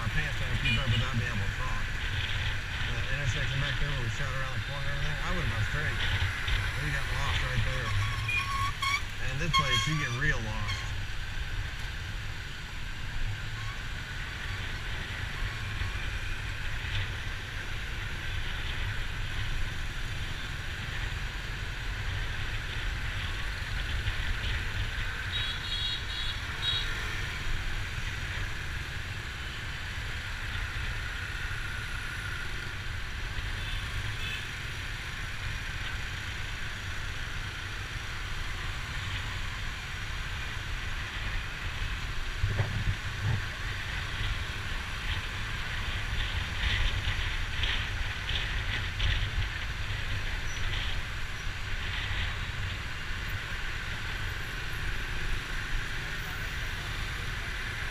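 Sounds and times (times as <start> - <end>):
city traffic rumble: 0.0 - 57.9.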